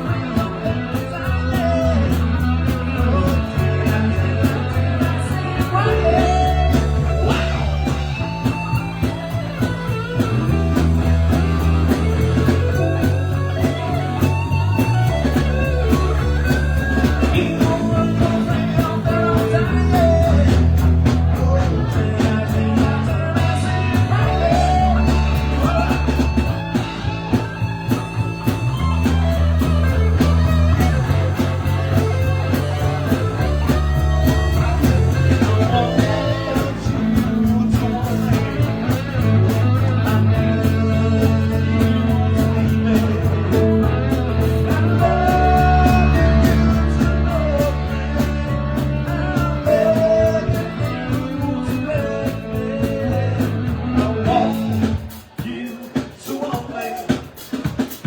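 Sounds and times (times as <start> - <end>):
lead guitar bending notes: 0.0 - 55.0
repeating bass line: 0.0 - 55.1
steady drum beat: 0.0 - 58.0.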